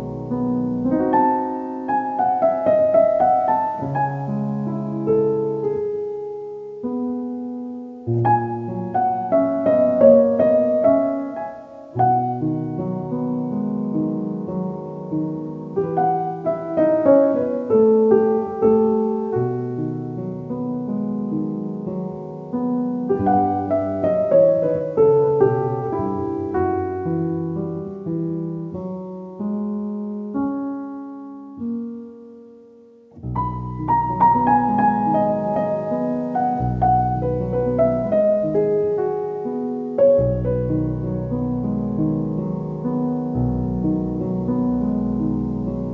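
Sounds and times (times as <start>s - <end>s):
fuller piano with deep bass: 0.0s - 45.9s
slow piano music: 0.0s - 45.9s.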